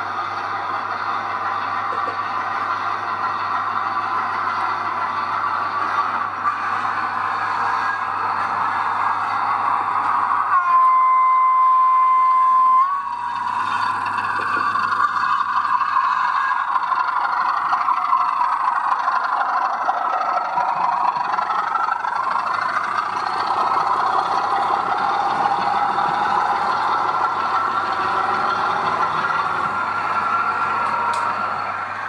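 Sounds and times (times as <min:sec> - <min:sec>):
model locomotive running: 0:00.0 - 0:32.0.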